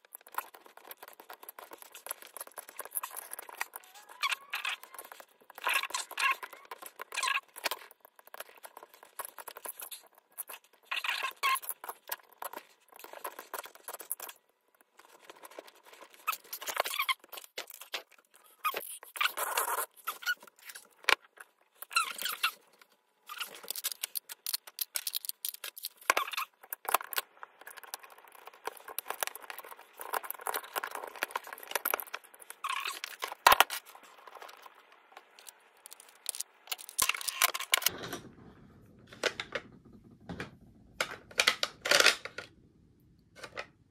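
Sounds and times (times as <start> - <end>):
small plastic clicks and scrapes: 0.0 - 38.2, 39.1 - 42.5, 43.3 - 43.8.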